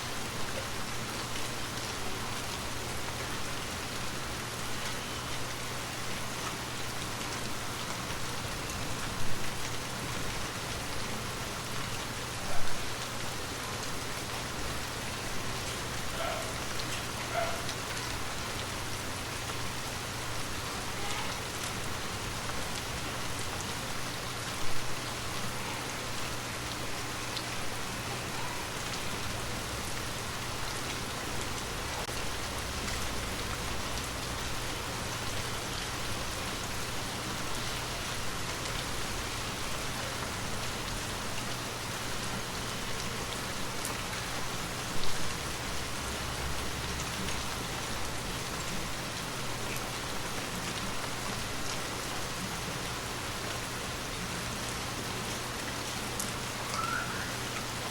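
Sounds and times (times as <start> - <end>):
gentle rain falling: 0.0 - 57.9.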